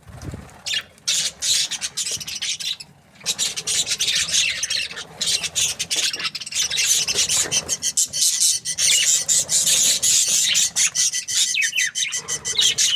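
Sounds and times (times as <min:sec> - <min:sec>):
budgerigars chattering: 0:00.7 - 0:12.9.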